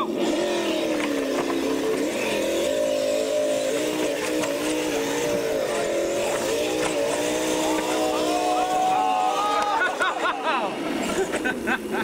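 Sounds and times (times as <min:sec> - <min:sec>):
toy truck motors whining: 0:00.0 - 0:12.0.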